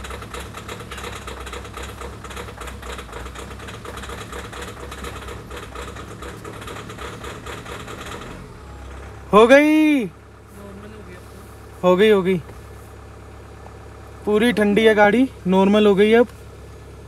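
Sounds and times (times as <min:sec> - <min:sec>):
engine idling with clatter: 0:00.0 - 0:17.0.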